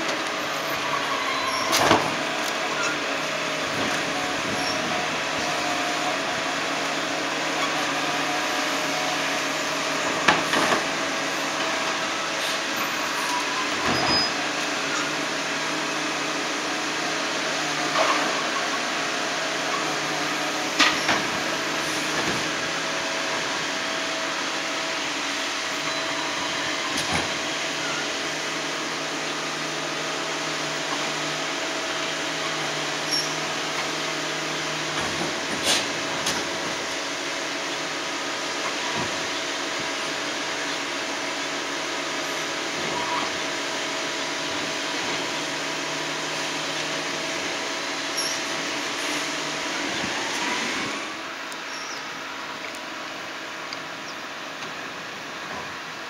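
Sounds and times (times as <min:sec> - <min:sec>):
garbage truck running: 0:00.0 - 0:56.0.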